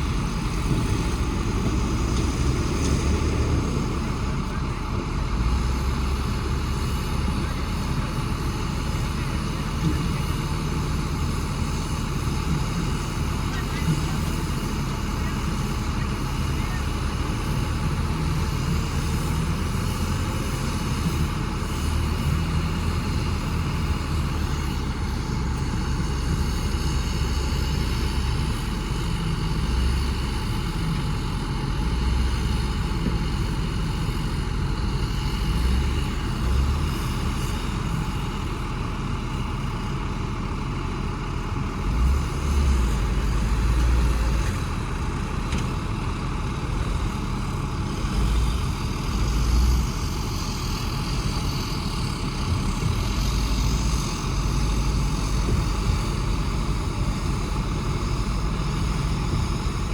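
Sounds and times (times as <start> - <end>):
diesel engine of earthmoving machinery: 0.0 - 59.9.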